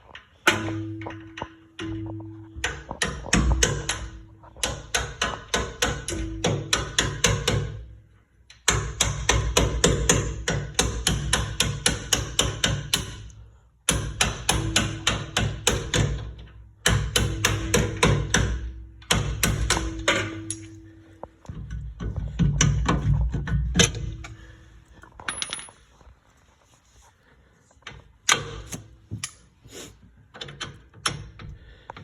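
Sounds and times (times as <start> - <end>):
hammer tapping on metal bolts: 0.1 - 24.4, 27.8 - 29.5, 30.3 - 32.0.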